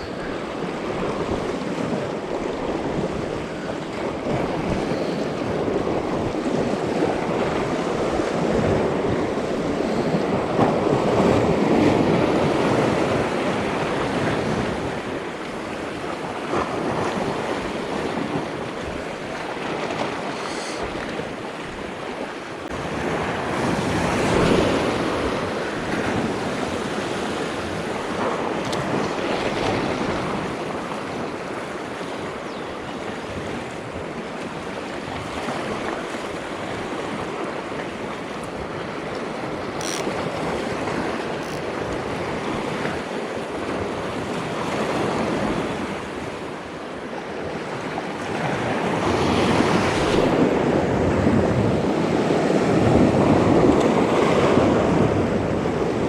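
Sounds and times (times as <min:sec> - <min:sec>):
waves on rocky shore: 0:00.0 - 0:56.0
wind buffeting microphone: 0:00.0 - 0:56.0.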